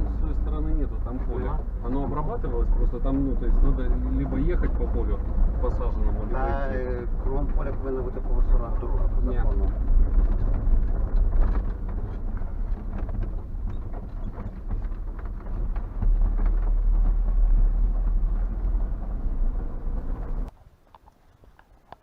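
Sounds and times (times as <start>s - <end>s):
car rumbling over dirt track: 0.0s - 20.5s
knocks and rattles: 0.0s - 20.5s.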